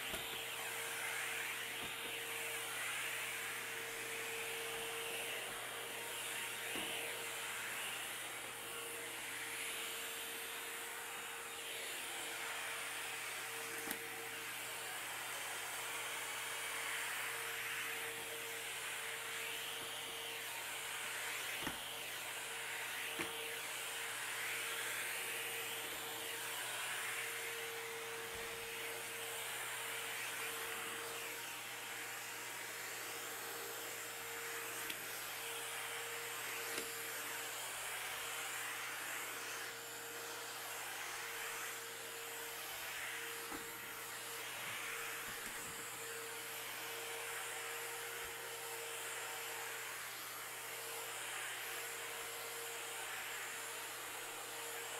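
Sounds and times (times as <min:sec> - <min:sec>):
vacuum mop motor hum: 0:00.0 - 0:54.9.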